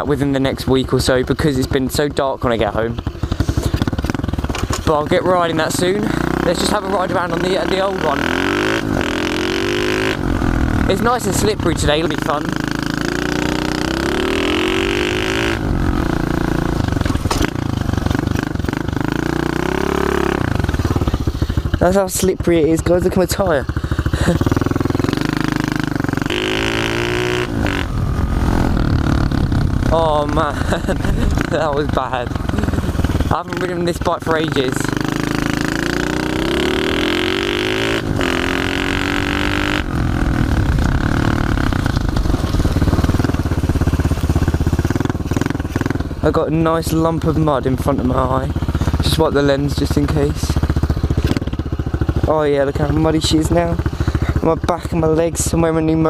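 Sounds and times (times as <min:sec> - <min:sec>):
pit bike engine revving: 0:00.0 - 0:56.0.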